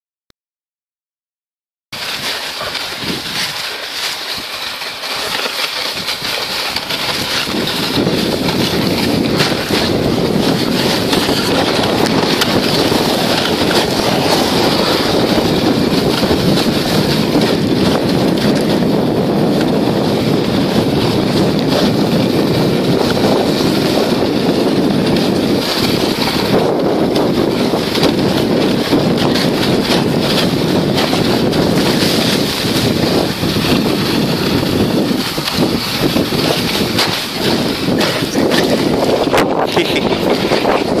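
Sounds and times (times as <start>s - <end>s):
sledge runners hissing on snow: 2.0s - 41.0s
wind rushing over microphone: 2.0s - 41.0s.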